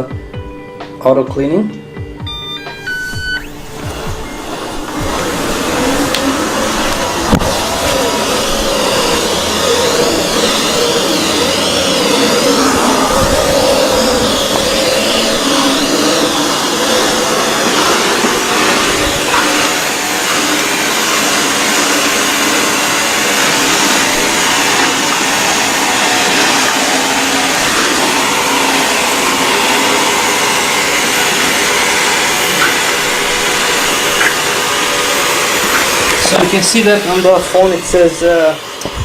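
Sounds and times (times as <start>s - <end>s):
robot vacuum cleaner whirring: 2.2s - 39.0s.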